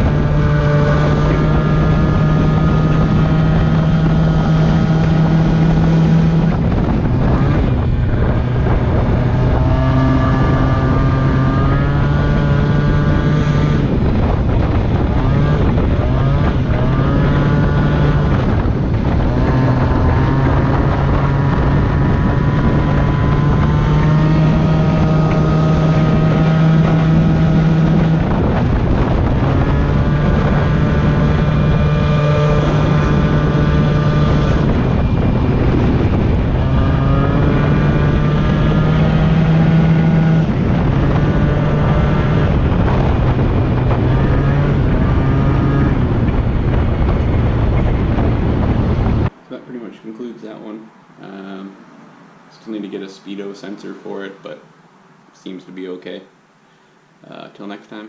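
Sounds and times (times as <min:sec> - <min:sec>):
scooter engine revving: 0:00.0 - 0:49.4
wind on microphone: 0:00.0 - 0:54.7.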